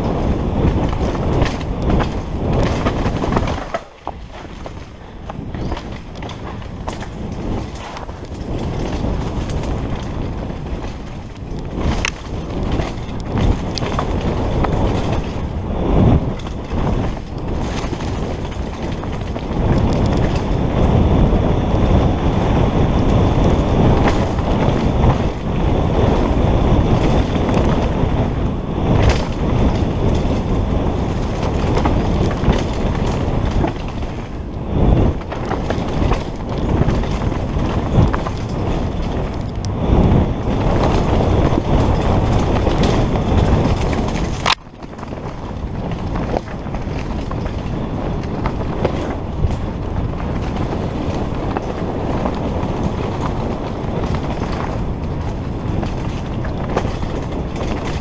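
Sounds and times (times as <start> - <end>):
bike rattling over bumps: 0.0 - 58.0
wind buffeting microphone: 0.0 - 58.0.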